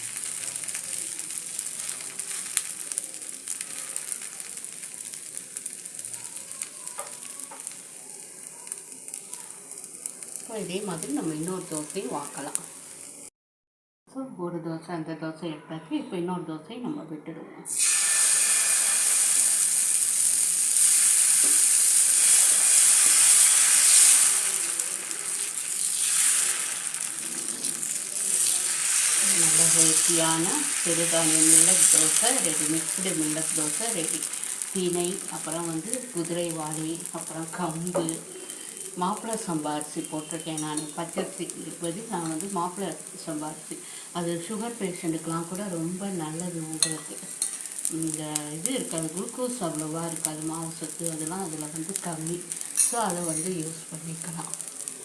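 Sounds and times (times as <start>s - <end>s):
dosa sizzling on a griddle: 0.0s - 13.3s, 17.7s - 55.0s.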